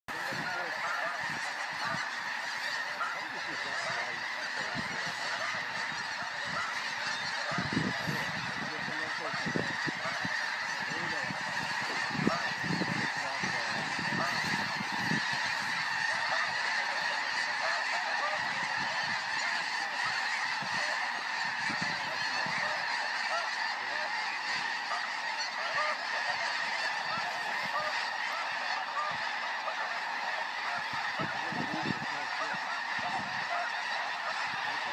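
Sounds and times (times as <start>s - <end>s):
geese honking: 0.1s - 34.9s.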